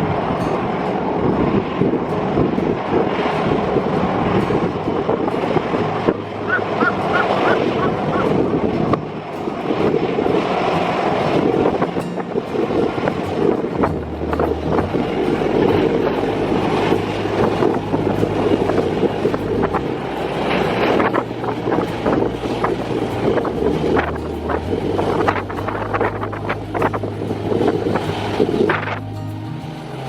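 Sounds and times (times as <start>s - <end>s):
aircraft and ground equipment noise: 0.0s - 30.0s
wind buffeting microphone: 0.0s - 30.0s.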